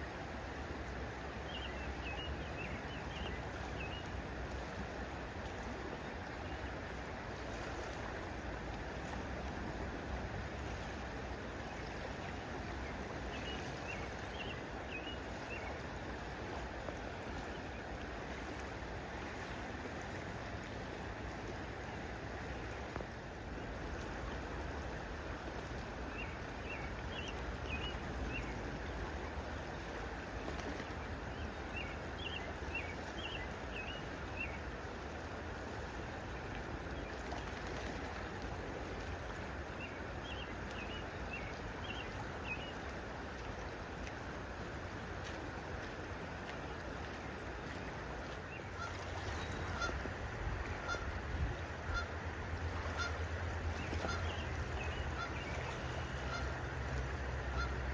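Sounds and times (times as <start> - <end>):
flowing water rushing: 0.0 - 57.9.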